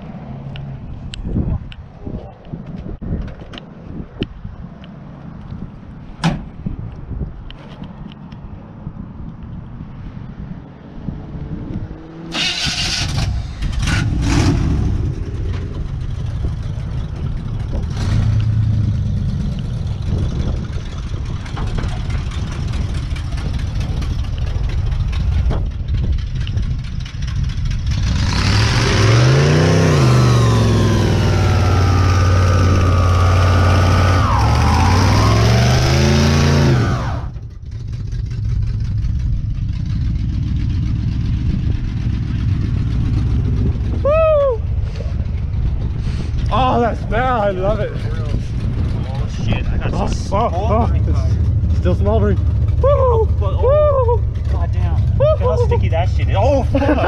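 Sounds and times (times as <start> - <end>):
pickup engine idling and revving: 4.2 - 57.0.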